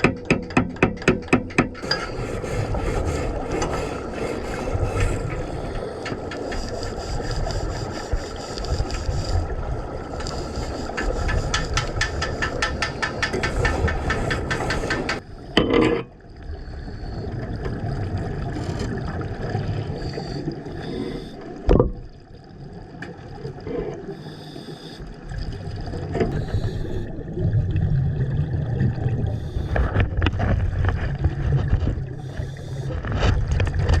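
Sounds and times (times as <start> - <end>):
water sloshing and gurgling: 0.0 - 34.0.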